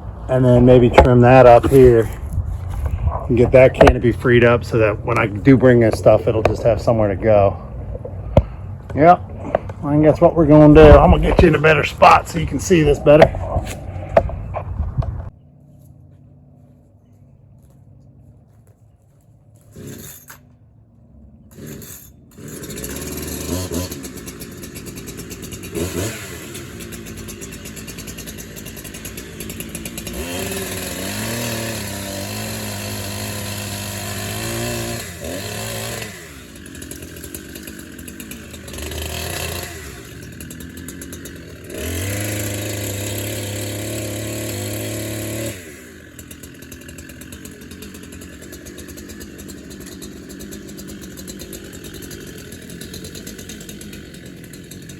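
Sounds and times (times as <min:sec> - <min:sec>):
chainsaw idling: 0:00.0 - 0:14.6, 0:19.6 - 0:20.6, 0:21.5 - 0:54.9
chainsaw at full throttle: 0:00.3 - 0:02.2, 0:02.8 - 0:14.2, 0:19.7 - 0:20.3, 0:21.5 - 0:54.9.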